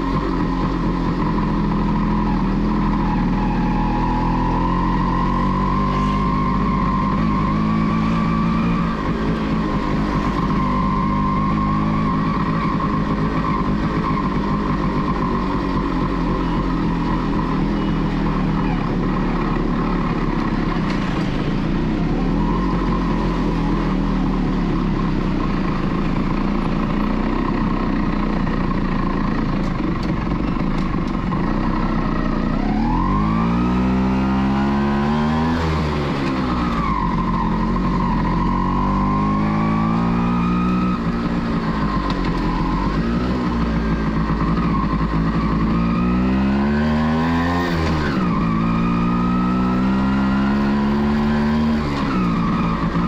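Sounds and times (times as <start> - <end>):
motorcycle engine revving: 0.0 - 53.0
street traffic: 0.0 - 53.0.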